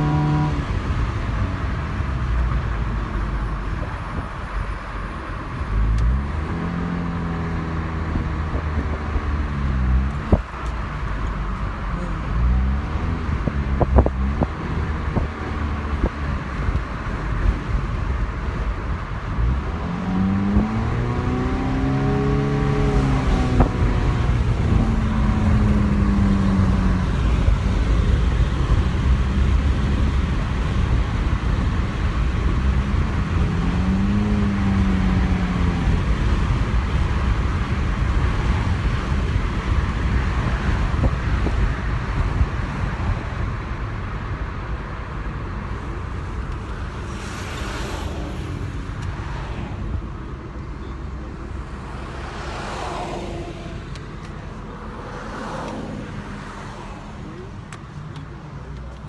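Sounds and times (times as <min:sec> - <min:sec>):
car engine: 0:00.0 - 0:59.0
road and wind noise: 0:00.0 - 0:59.0.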